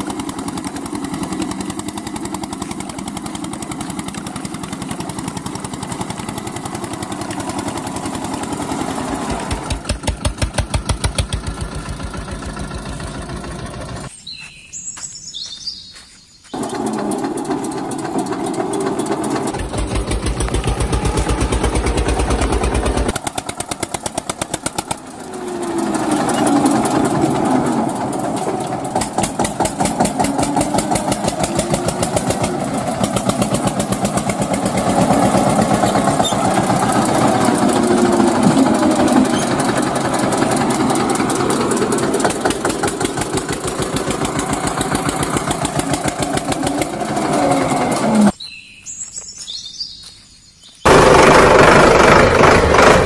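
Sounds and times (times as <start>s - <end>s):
engine running with fast putter: 0.0s - 14.1s, 16.6s - 48.4s, 50.9s - 53.0s.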